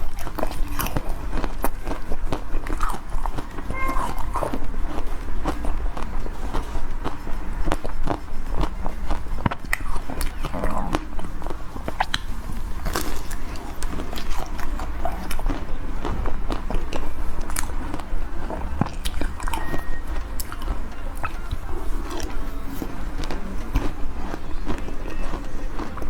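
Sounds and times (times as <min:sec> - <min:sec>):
biting and chewing ice cream: 0:00.0 - 0:26.0.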